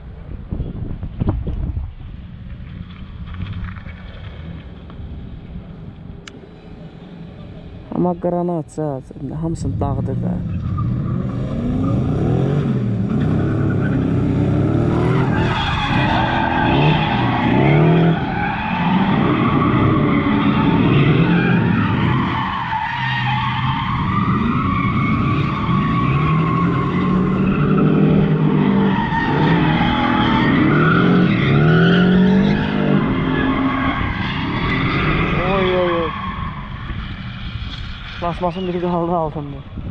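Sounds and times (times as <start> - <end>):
car engines revving: 2.2 - 39.9
tyres skidding and squealing: 6.6 - 39.9.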